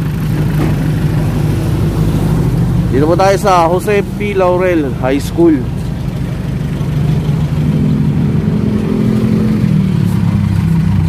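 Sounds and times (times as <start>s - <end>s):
pickup truck engine revving: 0.0s - 11.0s.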